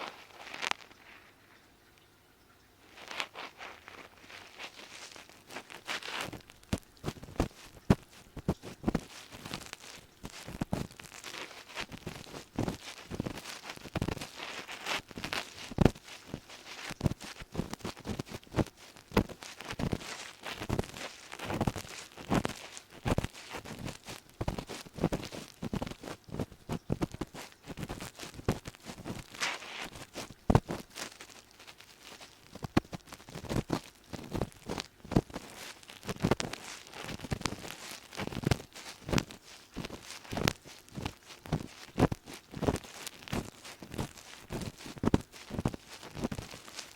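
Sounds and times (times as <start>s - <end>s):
ear pick scraping in ear: 2.9s - 46.9s.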